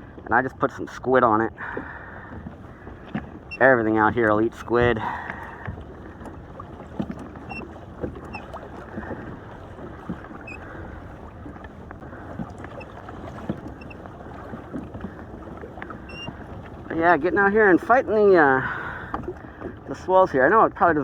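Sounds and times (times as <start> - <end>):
water lapping against kayak hull: 0.0 - 21.0.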